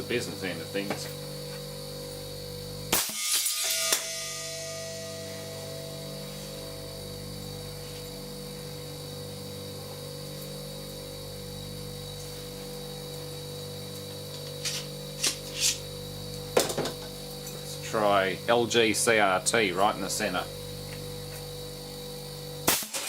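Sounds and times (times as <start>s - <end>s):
electrical hum: 0.0s - 23.0s
high-pitched whine: 0.0s - 23.0s.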